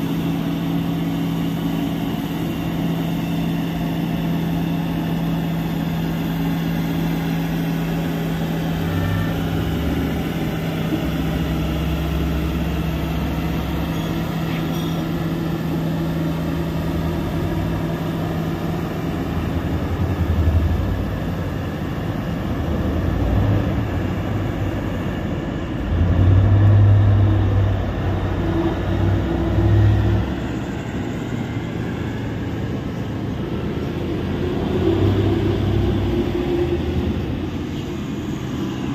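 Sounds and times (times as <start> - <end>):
deep truck rumbles: 0.0 - 38.9
diesel engine hum: 0.0 - 38.9.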